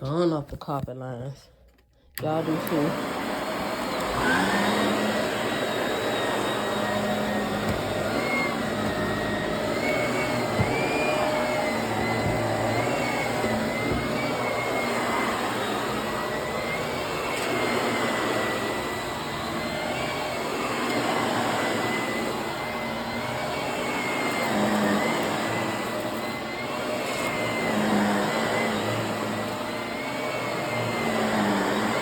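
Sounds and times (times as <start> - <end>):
vacuum cleaner on carpet: 2.2 - 32.0.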